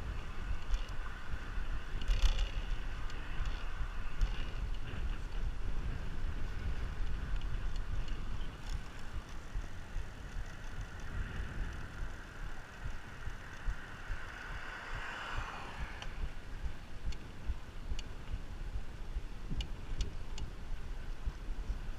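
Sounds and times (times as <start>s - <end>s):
tyre and road noise: 0.0s - 21.9s
wind rumbling on microphone: 0.0s - 21.9s
faint ticks: 0.5s - 18.5s, 19.5s - 20.6s.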